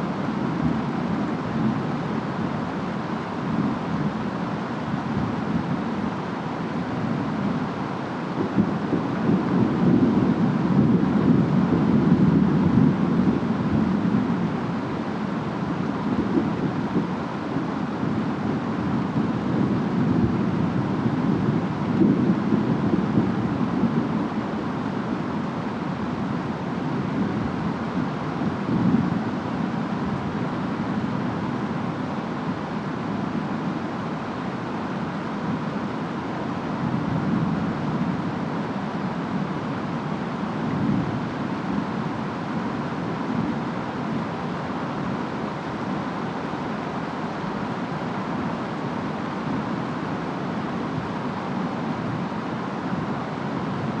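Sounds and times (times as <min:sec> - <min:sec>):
rain: 0:00.0 - 0:54.0
wind: 0:00.0 - 0:54.0.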